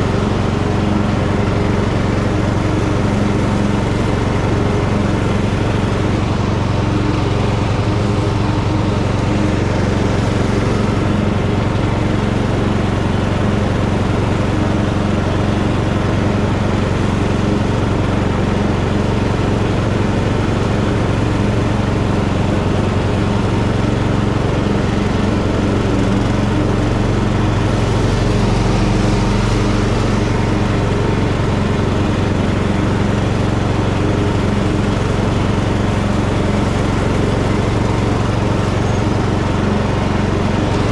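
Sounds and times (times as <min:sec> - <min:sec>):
tractor engine drone: 0:00.0 - 0:40.9.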